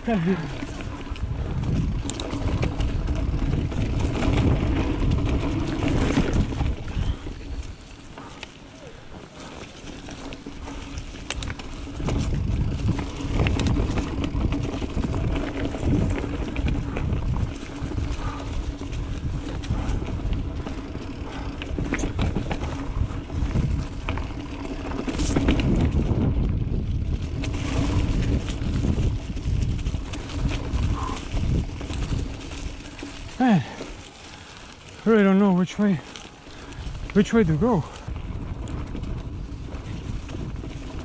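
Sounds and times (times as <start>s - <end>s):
bike rattling clicks: 0.0s - 41.0s
tyres rumbling on dirt: 0.0s - 41.0s
wind buffeting microphone: 0.0s - 41.0s.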